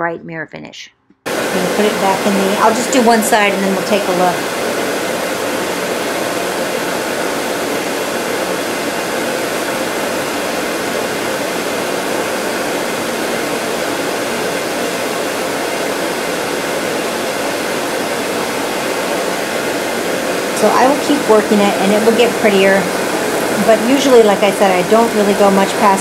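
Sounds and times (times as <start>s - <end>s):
dust collector fan noise: 1.3s - 26.0s.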